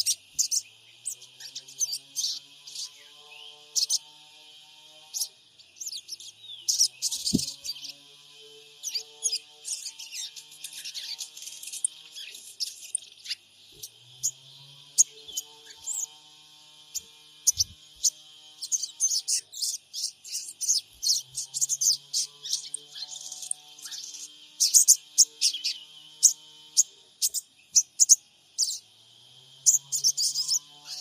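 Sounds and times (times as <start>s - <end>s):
songbird chirping: 0.0s - 4.3s, 5.0s - 31.0s.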